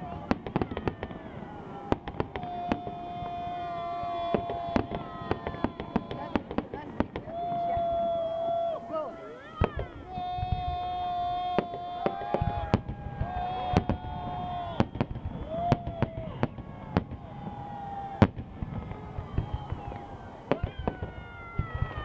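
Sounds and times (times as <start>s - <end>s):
fireworks bursting: 0.0s - 22.0s
people shouting: 0.0s - 22.0s.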